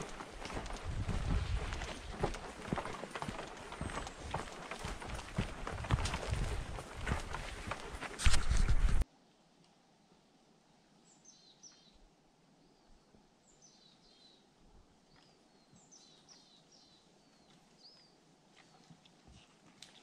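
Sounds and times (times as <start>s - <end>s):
songbird chirping: 0.0s - 8.4s, 10.8s - 19.2s.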